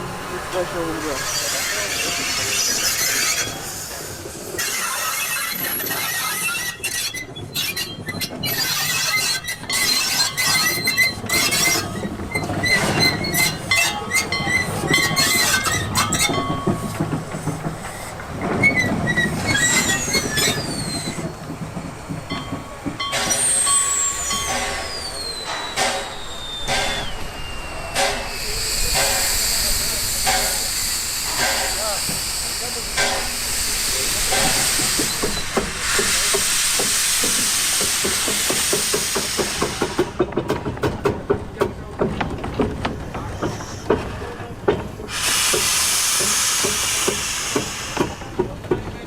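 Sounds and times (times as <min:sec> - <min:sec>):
train wheels squealing on rails: 0:00.4 - 0:49.0.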